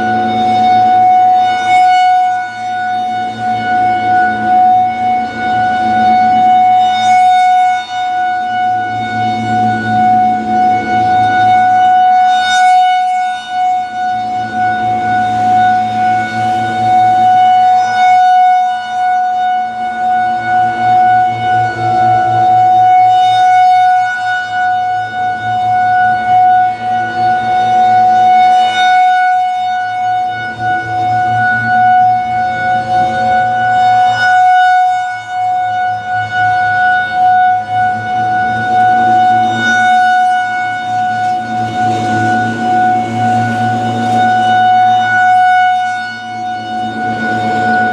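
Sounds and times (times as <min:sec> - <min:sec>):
electromechanical siren steady tone: 0:00.0 - 0:47.9.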